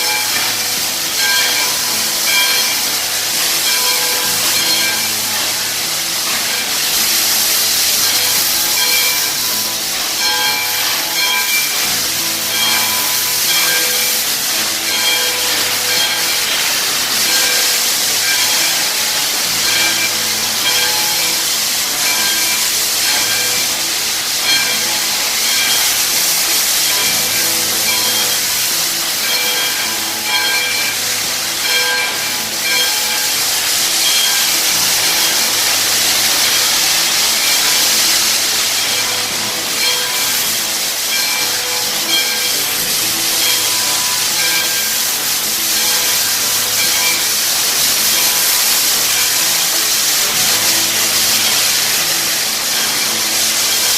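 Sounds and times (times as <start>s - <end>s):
steam hissing from locomotive: 0.0s - 53.9s.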